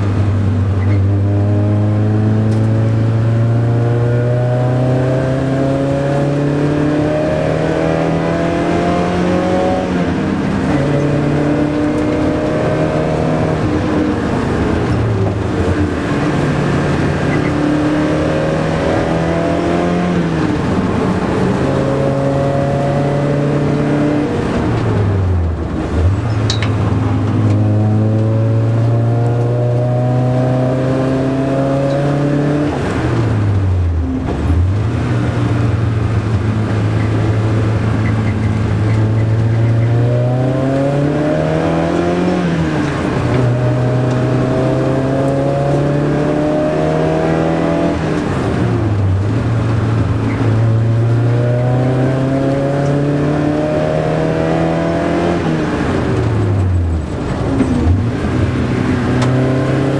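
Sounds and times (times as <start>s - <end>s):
race car engine from inside cabin: 0.0s - 59.9s.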